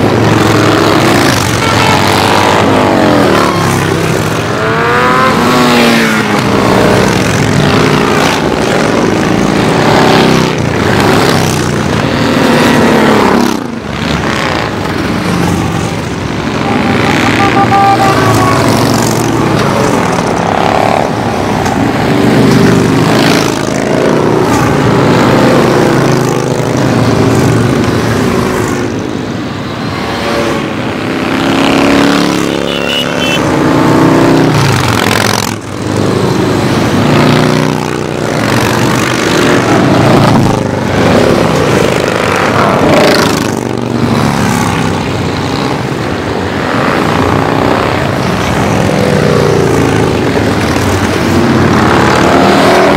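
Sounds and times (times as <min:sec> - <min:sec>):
motorcycles riding past: 0:00.0 - 0:52.9.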